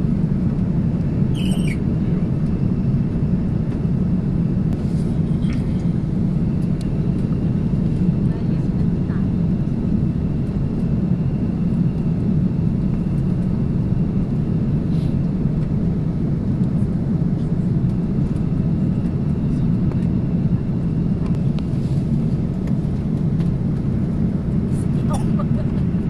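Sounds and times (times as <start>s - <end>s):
aircraft cabin engine rumble: 0.0s - 26.0s.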